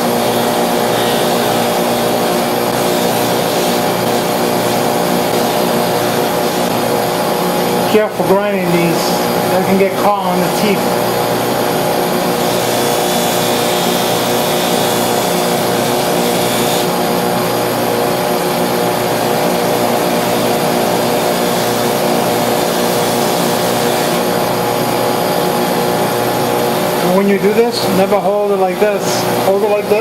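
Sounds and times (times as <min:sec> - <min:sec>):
electric grinder motor hum: 0:00.0 - 0:27.1.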